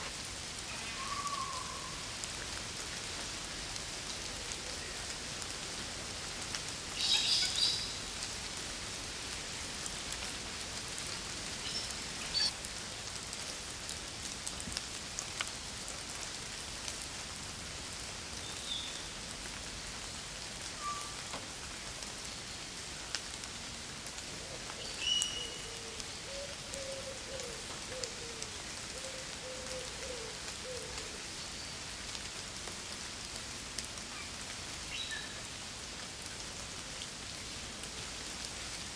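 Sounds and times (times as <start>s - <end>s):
rain on leaf litter: 0.0s - 38.9s.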